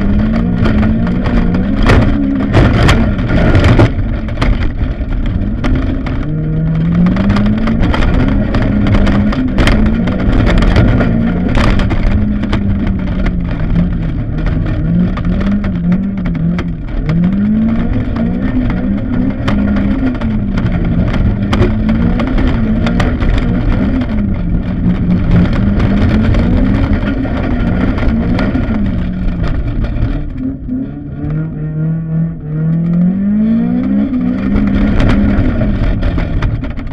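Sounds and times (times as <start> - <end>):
car engine revving: 0.0 - 36.9
gravel striking car body: 0.0 - 36.9.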